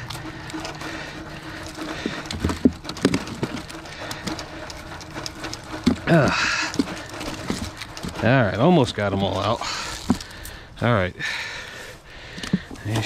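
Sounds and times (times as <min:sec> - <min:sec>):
fish flopping and slapping: 0:00.0 - 0:10.6.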